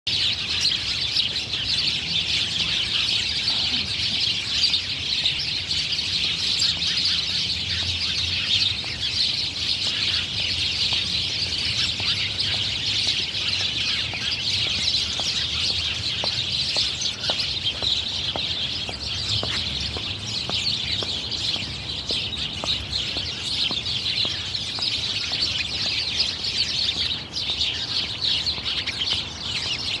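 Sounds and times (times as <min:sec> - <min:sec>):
birds singing and chirping: 0:00.1 - 0:30.0.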